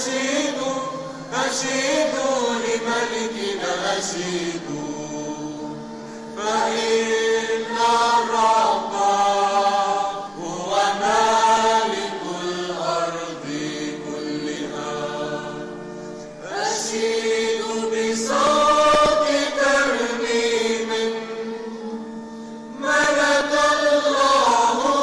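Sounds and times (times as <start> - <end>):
choir singing a hymn: 0.0 - 25.0
organ accompaniment: 0.0 - 25.0.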